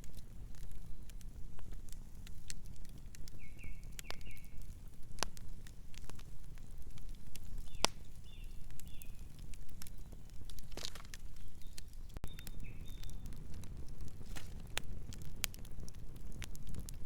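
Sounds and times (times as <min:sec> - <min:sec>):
low rumble of burning fire: 0:00.0 - 0:17.0
wood snapping in campfire: 0:00.0 - 0:17.0.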